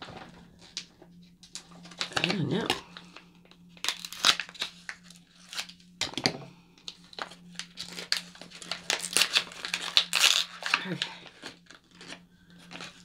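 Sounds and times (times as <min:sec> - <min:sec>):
packaging crinkling and tearing: 0:00.1 - 0:03.2, 0:03.8 - 0:06.3, 0:06.9 - 0:13.0.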